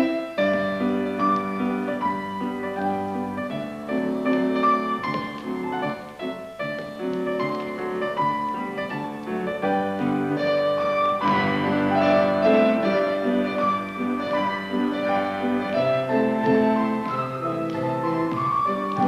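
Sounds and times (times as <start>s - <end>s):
classical ballet music: 0.0s - 19.0s
piano: 0.0s - 19.0s.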